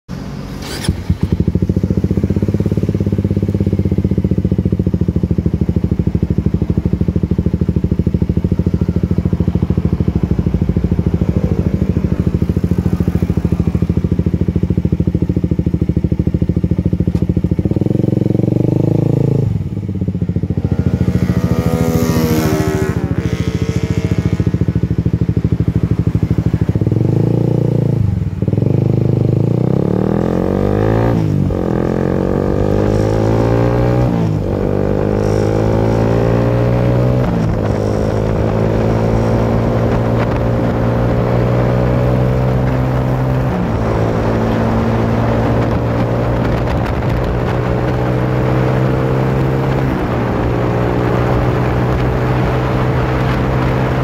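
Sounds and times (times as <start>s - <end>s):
motorcycle engine idling and revving: 0.1s - 54.0s.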